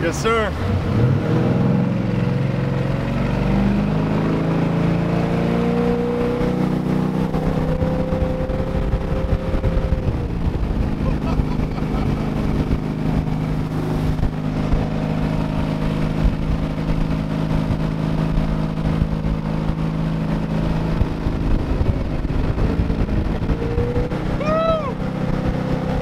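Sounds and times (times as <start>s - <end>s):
boat engine running: 0.0s - 5.0s, 6.2s - 26.0s.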